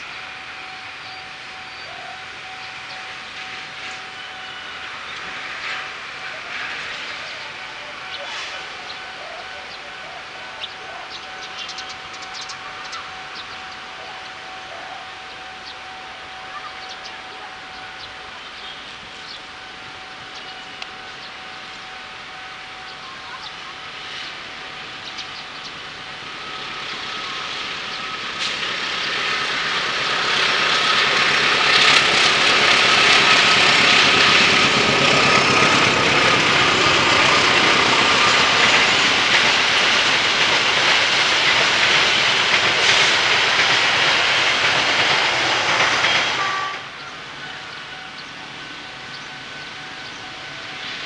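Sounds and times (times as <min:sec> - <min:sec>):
train wheels rolling on rail: 0:00.0 - 0:51.0.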